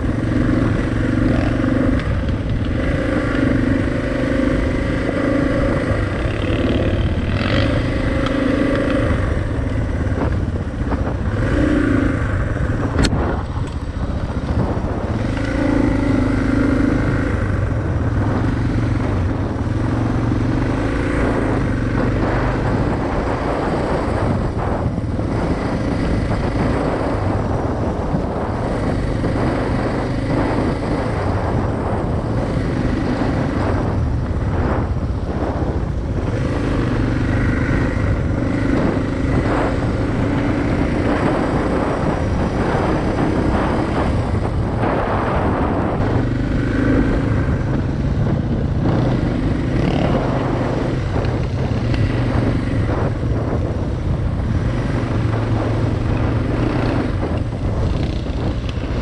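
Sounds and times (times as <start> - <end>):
motorcycle engine running: 0.0 - 59.0
wind and tyre noise: 0.0 - 59.0.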